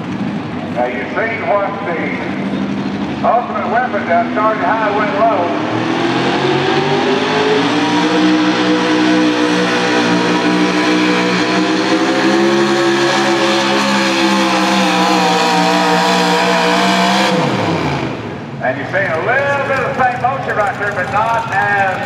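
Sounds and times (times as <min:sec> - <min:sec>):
truck engine running hard: 0:00.0 - 0:22.0.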